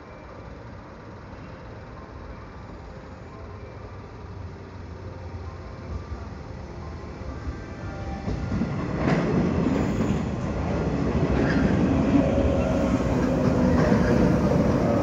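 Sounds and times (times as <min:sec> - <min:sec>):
train slowing into station: 0:00.0 - 0:15.0.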